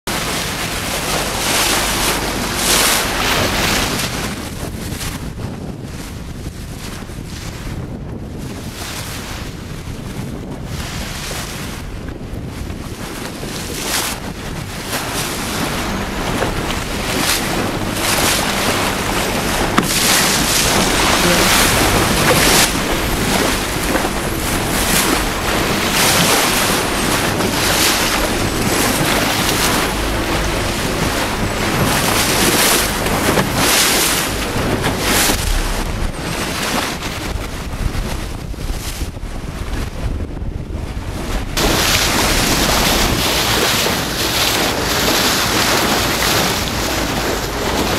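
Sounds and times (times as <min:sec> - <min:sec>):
sea water rushing past boat: 0:00.0 - 0:47.9
low engine hum: 0:00.1 - 0:08.7, 0:09.4 - 0:47.9
wind buffeting microphone: 0:00.1 - 0:47.9.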